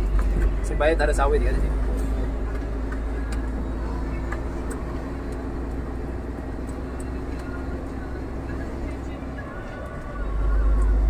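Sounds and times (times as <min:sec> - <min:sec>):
diesel engine and road rumble: 0:00.0 - 0:11.0.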